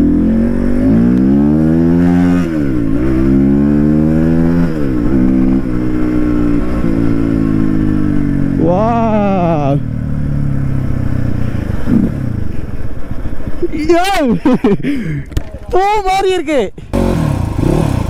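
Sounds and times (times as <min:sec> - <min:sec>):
motorcycle engine revving: 0:00.0 - 0:13.3, 0:16.8 - 0:18.0.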